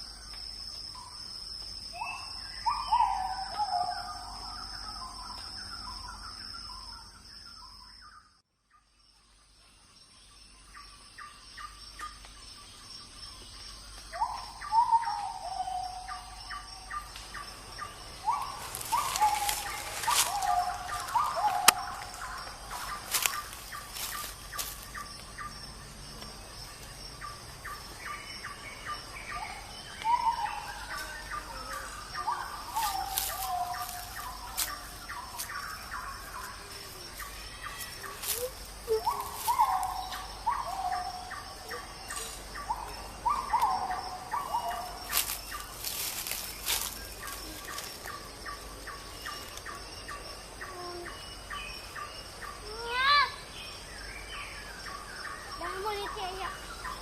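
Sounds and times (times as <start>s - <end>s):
faint high insect drone: 0.0s - 57.0s.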